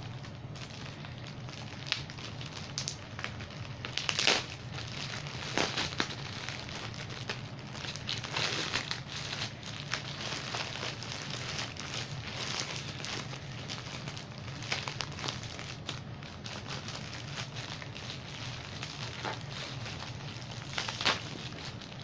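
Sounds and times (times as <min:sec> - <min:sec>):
low steady hum: 0:00.0 - 0:22.0
plastic bag crinkling: 0:00.0 - 0:22.0.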